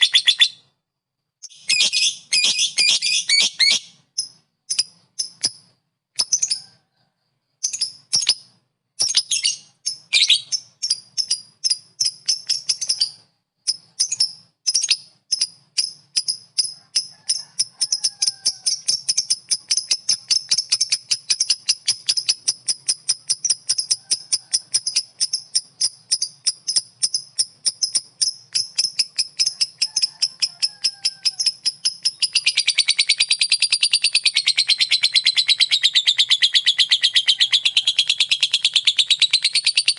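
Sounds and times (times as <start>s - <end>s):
lovebird chattering trill: 0.0s - 0.7s, 1.4s - 6.8s, 7.6s - 39.9s.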